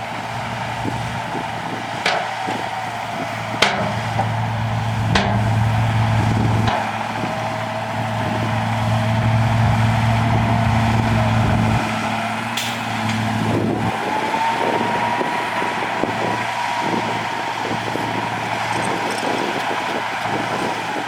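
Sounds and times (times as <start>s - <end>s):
thin rising whine: 0.0s - 18.1s
diesel engine running: 0.0s - 21.0s.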